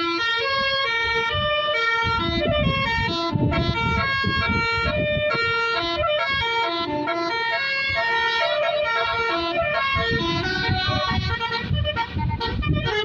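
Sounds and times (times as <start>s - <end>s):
bus multi-tone horn melody: 0.0s - 13.0s.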